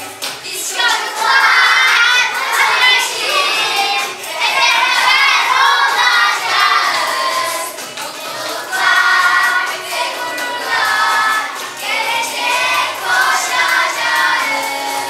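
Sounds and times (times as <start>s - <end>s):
children singing together: 0.0s - 15.0s
recorded music: 0.0s - 15.0s.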